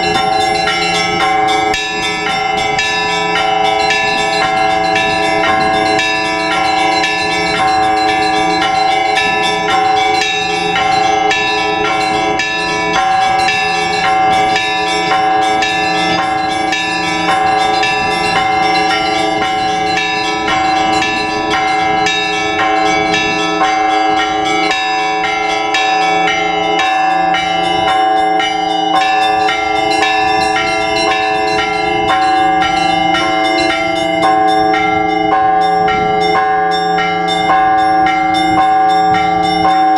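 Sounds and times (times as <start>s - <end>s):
large bells ringing: 0.0s - 39.9s
quick strikes on small bells: 0.0s - 39.9s.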